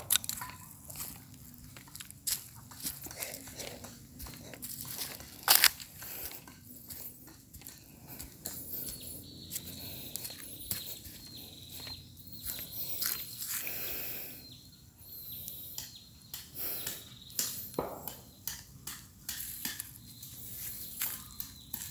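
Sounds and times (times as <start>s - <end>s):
footsteps outdoors: 0.0s - 21.9s.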